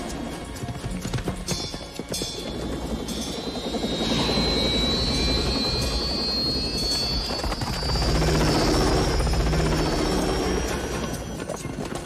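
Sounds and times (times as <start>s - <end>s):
helicopter rotor chop: 0.0s - 12.0s
turbine whine: 1.5s - 12.0s.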